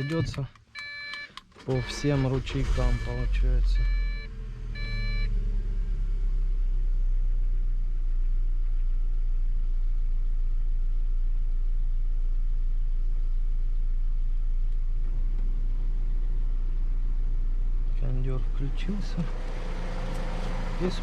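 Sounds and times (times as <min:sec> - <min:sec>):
car engine idling: 0:01.8 - 0:21.0.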